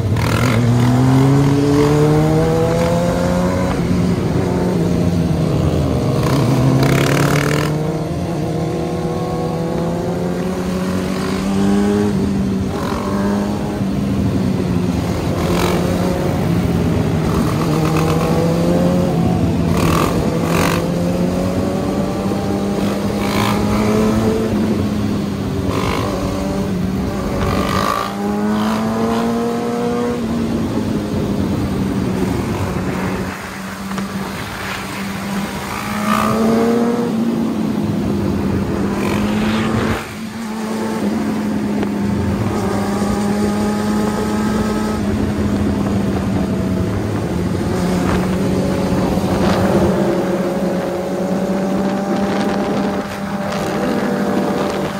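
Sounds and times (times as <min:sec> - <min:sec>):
motorcycle engines running: 0:00.0 - 0:54.9.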